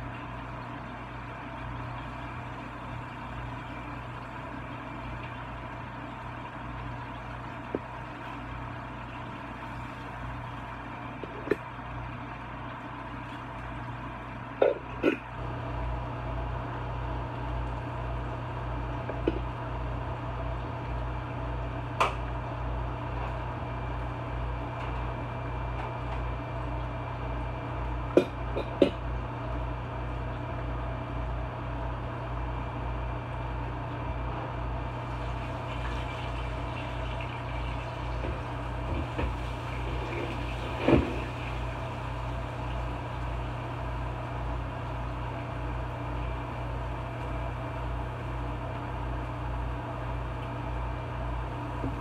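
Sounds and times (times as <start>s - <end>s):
appliance hum: 0.0s - 52.0s.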